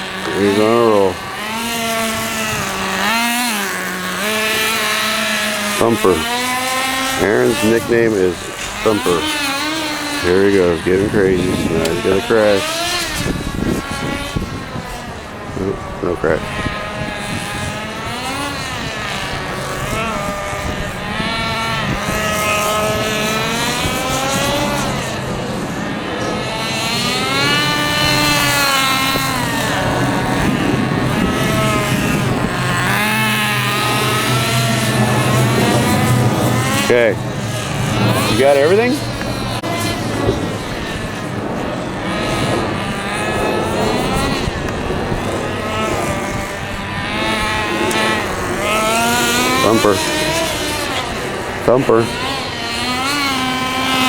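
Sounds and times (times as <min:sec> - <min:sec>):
rc car engine whining: 0:00.0 - 0:54.0.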